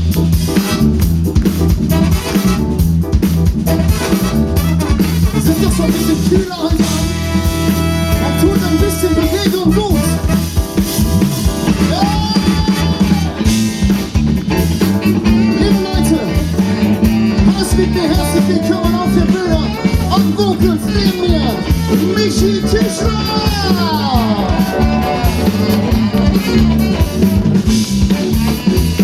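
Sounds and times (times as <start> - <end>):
drum kit beat: 0.0 - 29.0
held horn notes: 0.4 - 29.0.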